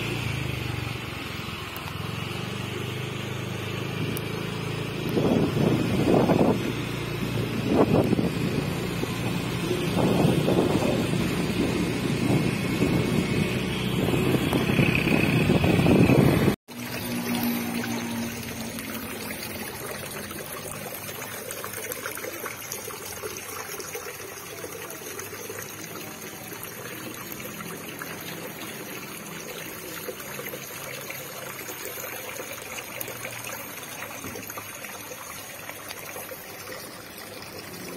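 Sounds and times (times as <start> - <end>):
fountain water trickling: 0.0 - 37.9.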